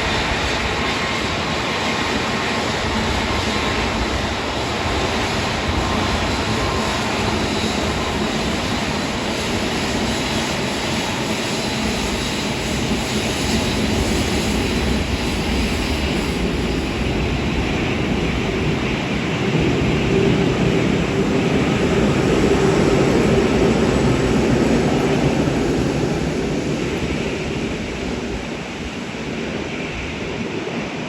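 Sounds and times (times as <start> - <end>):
jet engines idling with whine: 0.0 - 31.0.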